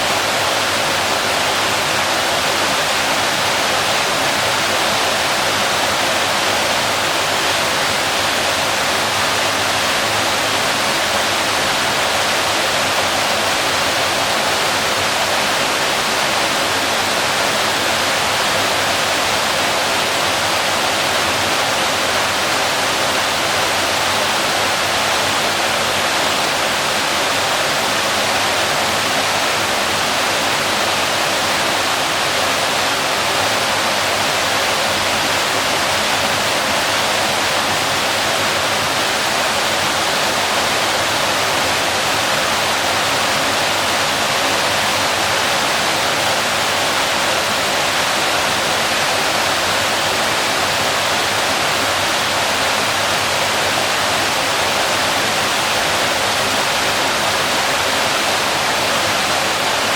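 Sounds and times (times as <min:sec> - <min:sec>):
waterfall crashing: 0:00.0 - 0:59.9.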